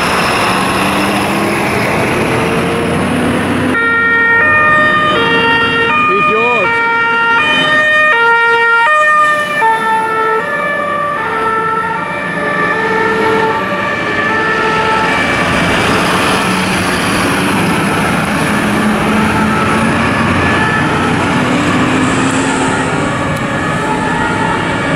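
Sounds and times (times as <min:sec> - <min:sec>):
diesel engine pulling away: 0:00.0 - 0:24.9
two-tone fire engine sirens: 0:00.0 - 0:24.9.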